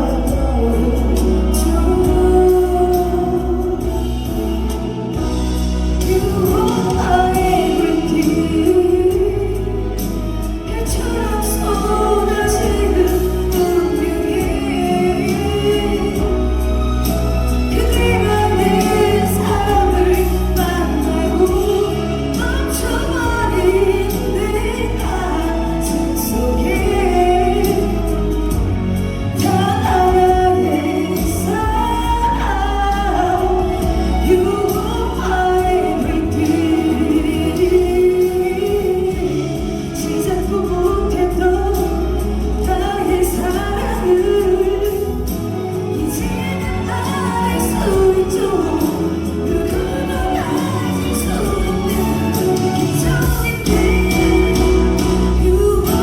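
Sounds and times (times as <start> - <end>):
bass accompaniment: 0.0 - 56.0
person singing: 0.0 - 56.0.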